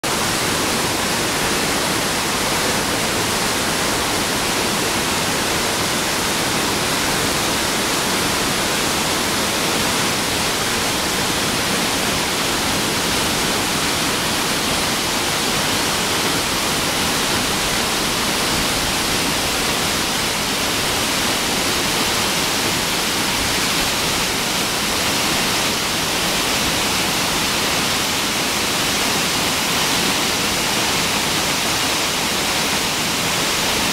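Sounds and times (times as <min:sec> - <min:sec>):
mountain stream rushing: 0:00.0 - 0:33.9.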